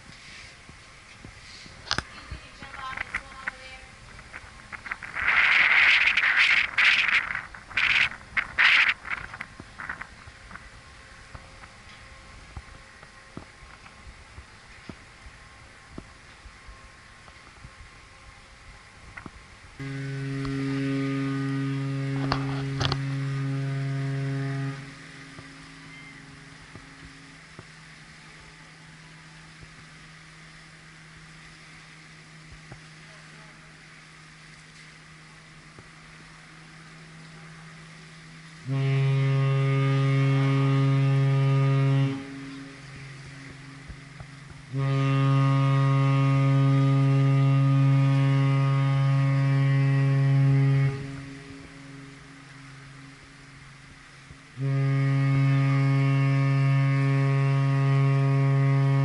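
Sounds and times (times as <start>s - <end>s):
ship horn long deep blast: 1.8s - 59.0s.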